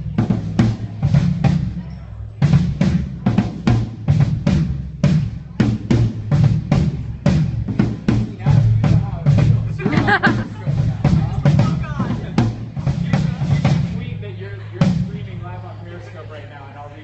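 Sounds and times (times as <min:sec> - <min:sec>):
drum kit steady beat: 0:00.0 - 0:15.6.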